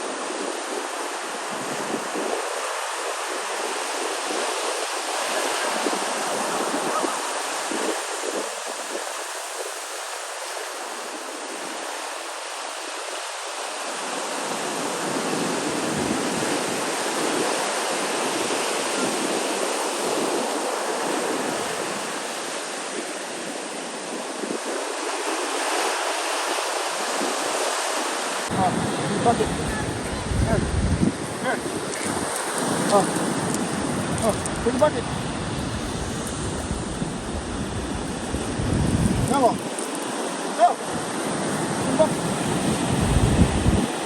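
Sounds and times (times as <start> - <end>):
waves washing on shore: 0.0 - 44.0.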